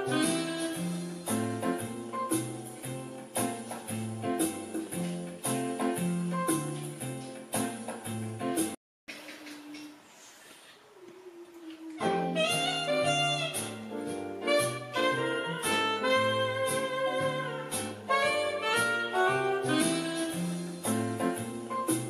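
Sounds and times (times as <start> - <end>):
music with bass line and beat: 0.0 - 8.8, 12.3 - 22.0.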